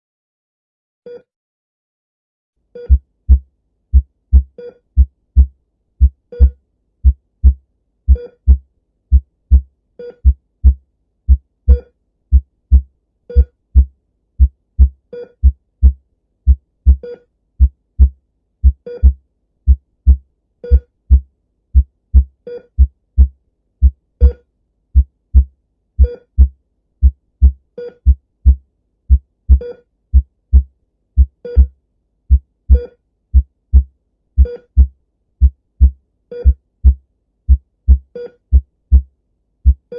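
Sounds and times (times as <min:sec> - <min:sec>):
heart monitor beep: 0:02.8 - 0:03.4, 0:04.0 - 0:06.6, 0:07.4 - 0:10.8, 0:11.7 - 0:21.2, 0:21.8 - 0:24.4, 0:25.0 - 0:39.1, 0:39.7 - 0:39.9
heartbeat thumps: 0:02.9 - 0:24.4, 0:25.0 - 0:31.7, 0:32.3 - 0:39.9.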